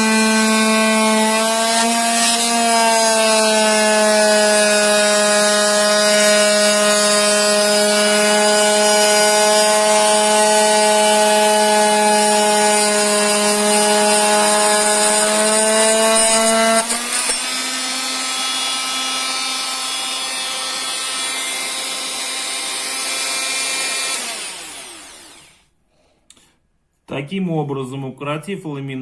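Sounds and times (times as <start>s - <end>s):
electric power tool cutting: 0.0s - 25.7s.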